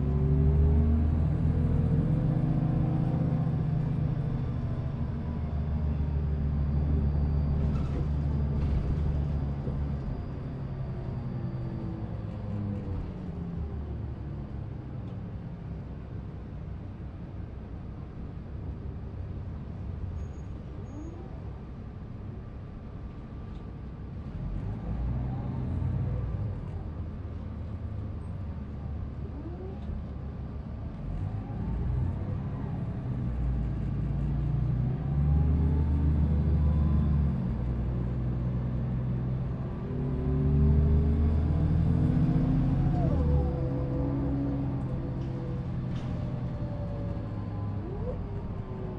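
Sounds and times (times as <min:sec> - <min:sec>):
bus diesel engine running: 0:00.0 - 0:25.0, 0:25.7 - 0:48.9.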